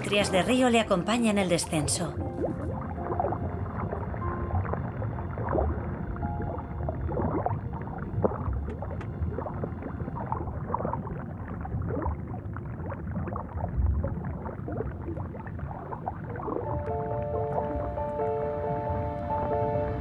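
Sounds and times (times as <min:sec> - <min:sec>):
bubbling and gurgling: 0:00.0 - 0:20.0
underwater rush: 0:00.0 - 0:20.0.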